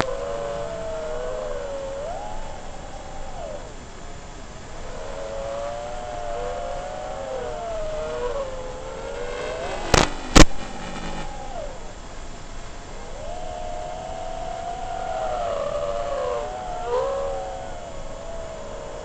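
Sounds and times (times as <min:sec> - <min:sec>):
quadcopter motors whining: 0:00.0 - 0:12.1, 0:12.8 - 0:19.0.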